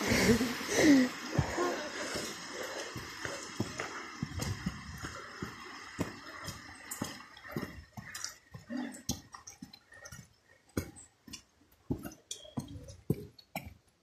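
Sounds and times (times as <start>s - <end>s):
footsteps on dirt trail: 1.3s - 13.9s.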